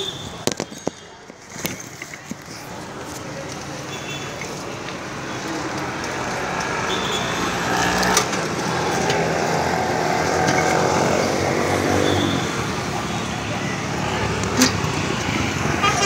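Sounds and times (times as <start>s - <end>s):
street noise: 0.0s - 16.0s.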